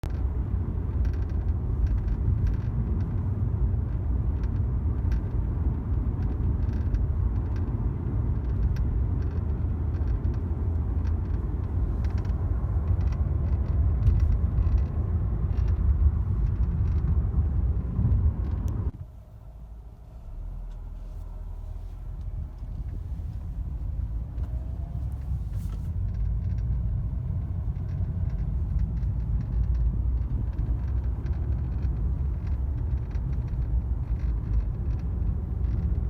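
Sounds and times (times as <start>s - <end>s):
car cabin road rumble: 0.0s - 36.0s.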